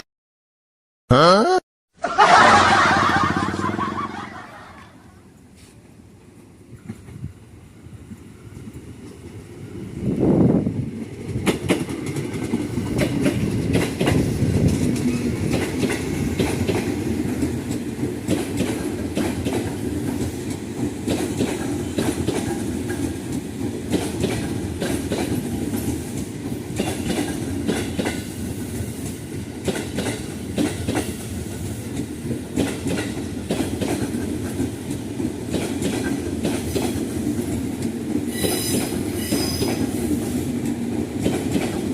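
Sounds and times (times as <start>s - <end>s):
train rumbling past: 2.5s - 41.9s.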